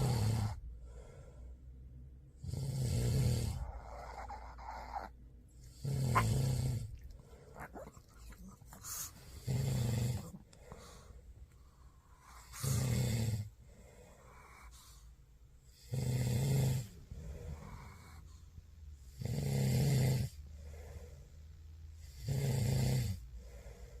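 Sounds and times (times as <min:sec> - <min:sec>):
puppy snoring: 0:00.0 - 0:00.6, 0:02.4 - 0:21.4, 0:22.0 - 0:24.0.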